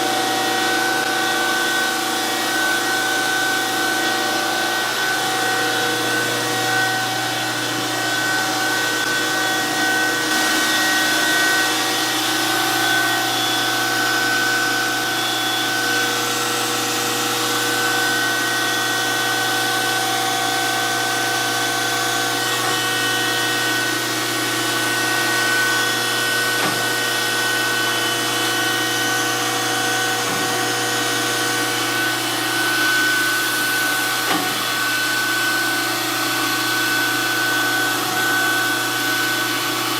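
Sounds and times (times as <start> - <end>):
surface grinder humming: 0.0 - 39.9.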